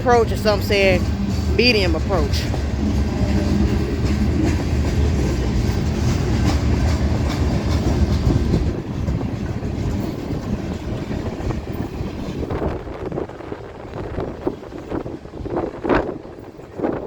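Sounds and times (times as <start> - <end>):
freight train rumbling past: 0.0 - 17.0
wheels clicking over rail joints: 0.0 - 17.0.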